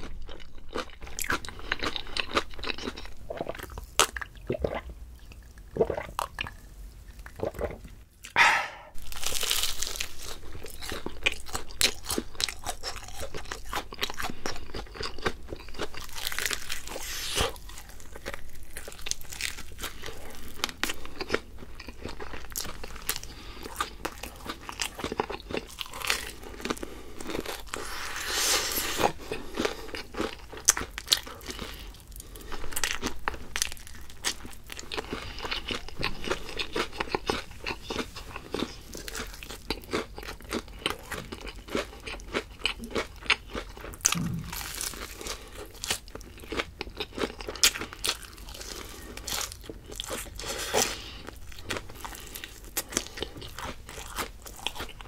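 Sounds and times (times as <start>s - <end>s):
crunching crispy fried food: 0.0s - 4.4s, 9.0s - 55.0s.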